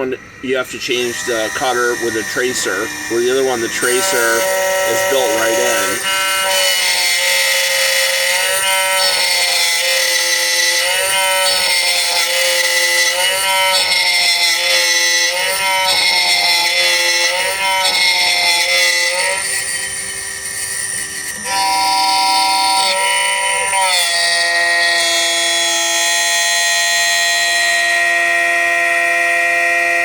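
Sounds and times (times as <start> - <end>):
motors whining up and down: 0.0 - 26.8
key cutter spindle whine: 0.0 - 30.0.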